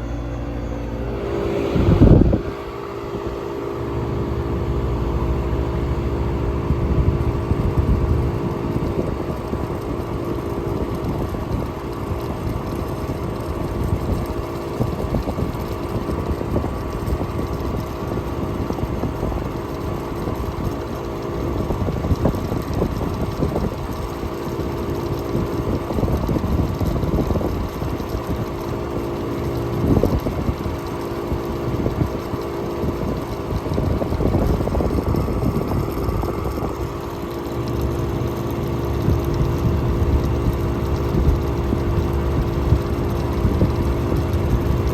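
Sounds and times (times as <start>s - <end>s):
air conditioner humming: 0.0s - 44.9s.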